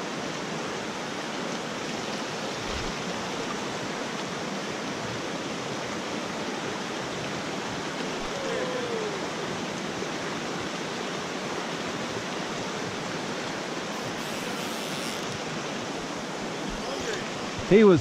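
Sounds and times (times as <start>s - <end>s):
creek rushing over rocks: 0.0s - 18.0s.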